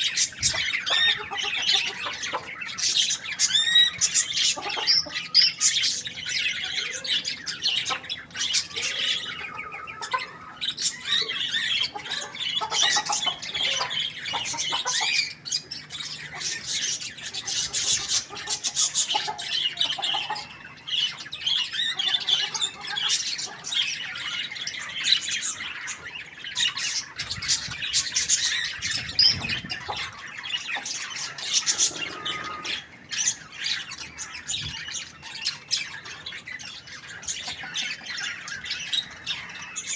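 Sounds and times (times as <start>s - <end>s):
many birds squawking and chirping: 0.0s - 39.9s.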